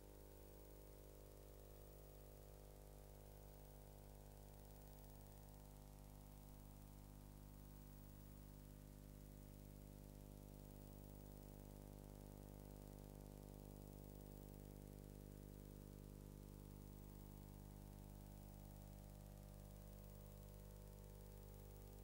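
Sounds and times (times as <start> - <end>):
faint hum and hiss: 0.0 - 22.0.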